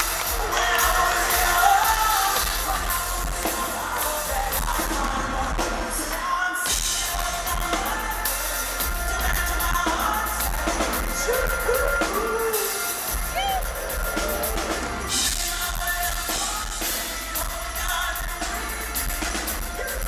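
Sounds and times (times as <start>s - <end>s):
drums: 0.0s - 20.0s
electric bass: 0.0s - 20.0s
man singing: 0.0s - 20.0s.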